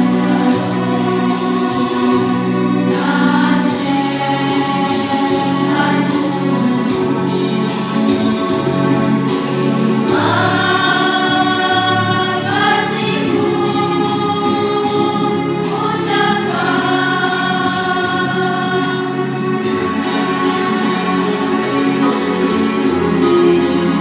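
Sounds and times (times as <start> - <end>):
children's choir singing: 0.0 - 24.0
instrumental accompaniment: 0.0 - 24.0.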